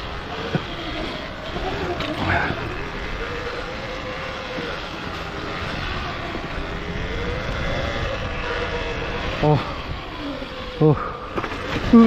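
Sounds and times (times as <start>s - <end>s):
bike tyres rolling on rocks: 0.0s - 12.0s
faint drone: 0.0s - 12.0s
wind rush: 0.0s - 12.0s.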